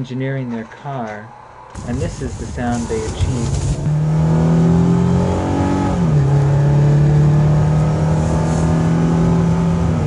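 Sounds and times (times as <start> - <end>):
car engine humming: 1.7 - 10.0.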